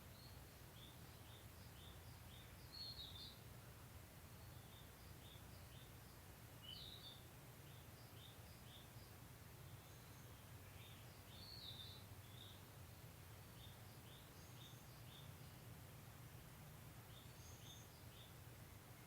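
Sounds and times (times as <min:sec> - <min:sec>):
small bird chirping: 0:00.0 - 0:03.5, 0:04.3 - 0:15.8, 0:17.0 - 0:19.0.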